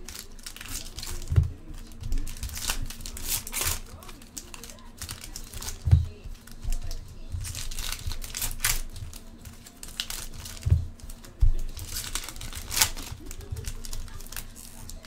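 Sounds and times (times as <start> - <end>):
foil wrappers crinkling and tearing: 0.0 - 15.0.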